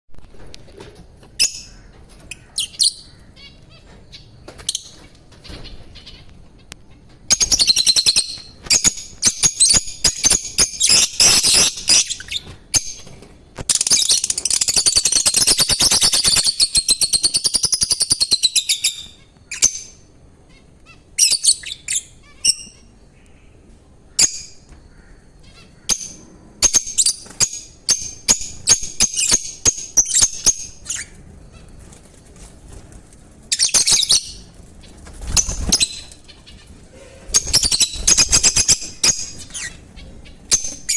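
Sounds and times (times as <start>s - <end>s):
lovebirds chirping: 1.3s - 40.9s.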